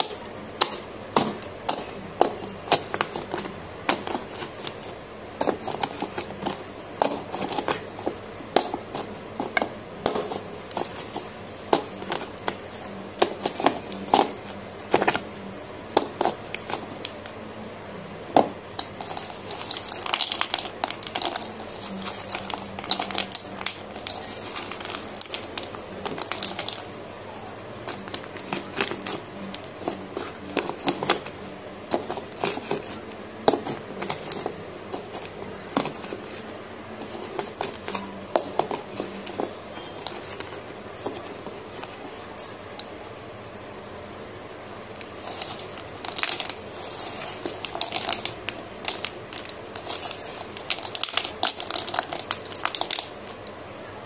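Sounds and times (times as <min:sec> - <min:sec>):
pencils crushed under a pestle: 0:00.0 - 0:15.3, 0:15.9 - 0:17.3, 0:18.3 - 0:27.0, 0:27.8 - 0:43.0, 0:45.0 - 0:53.5.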